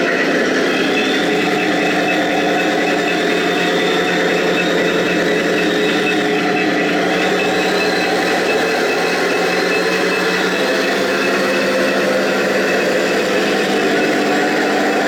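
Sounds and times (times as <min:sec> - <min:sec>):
toy tank motor hum: 0:00.0 - 0:15.0.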